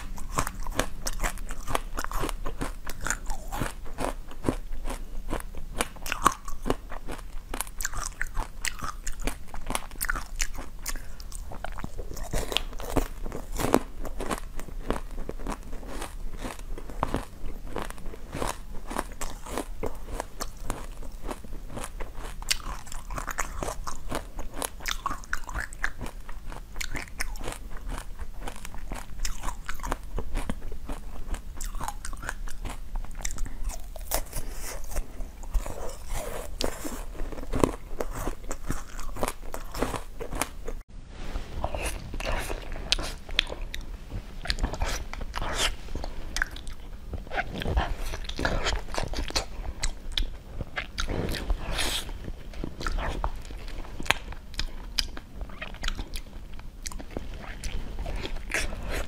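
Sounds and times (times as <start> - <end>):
crunching and chewing frozen treat: 0.0 - 40.8, 41.6 - 59.0.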